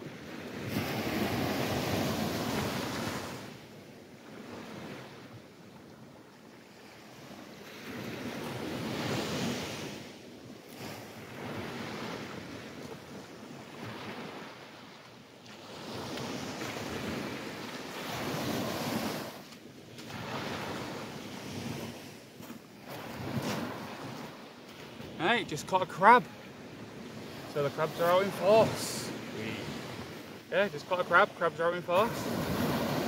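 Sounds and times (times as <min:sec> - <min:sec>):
small waves breaking on sand: 0:00.0 - 0:33.0.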